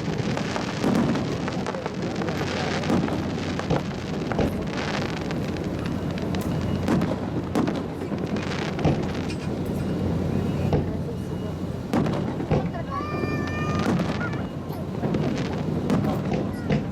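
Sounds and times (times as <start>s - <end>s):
low firework booms: 0.0s - 9.2s, 10.2s - 11.2s, 11.8s - 16.9s
firework crackling: 0.0s - 16.9s.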